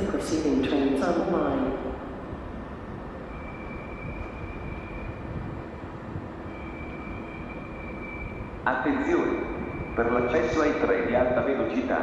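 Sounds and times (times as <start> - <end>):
low rumble of trains: 0.0 - 12.0.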